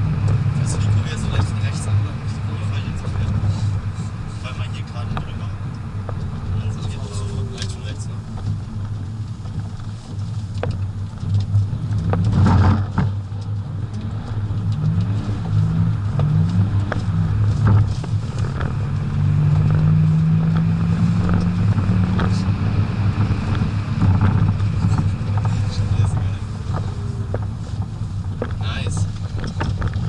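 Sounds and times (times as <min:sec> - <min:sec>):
diesel engine accelerating: 0:00.0 - 0:30.0
tyre and road noise: 0:00.0 - 0:30.0
road knocks: 0:04.9 - 0:30.0.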